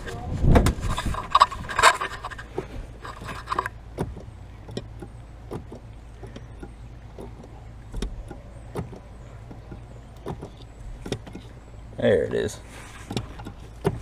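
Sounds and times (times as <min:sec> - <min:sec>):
clutch pedal clunks and clicks: 0:00.6 - 0:11.6, 0:13.0 - 0:14.0.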